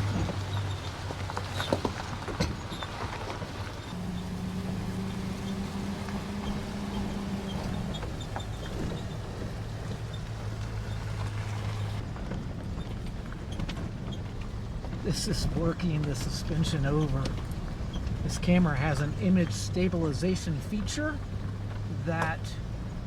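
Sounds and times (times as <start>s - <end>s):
suspension knocks and rattles: 0.0s - 23.0s
truck engine hum: 0.0s - 23.0s.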